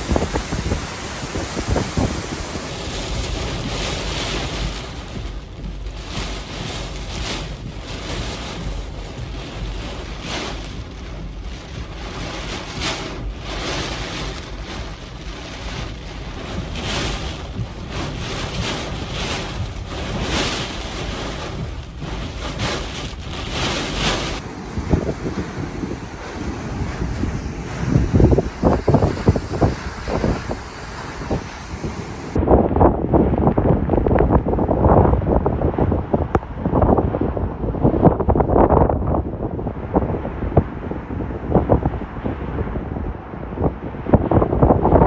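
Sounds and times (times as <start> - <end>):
strong wind buffeting microphone: 0.0 - 45.0.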